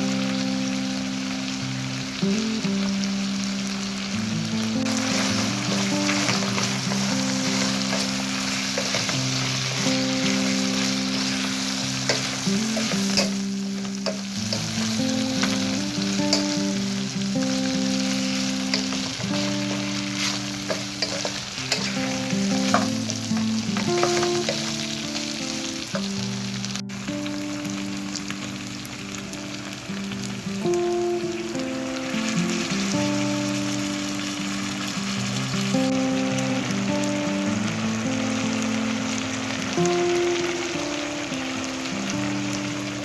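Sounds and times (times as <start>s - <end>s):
food sizzling in a frying pan: 0.0s - 43.0s
soft background music: 0.0s - 43.0s.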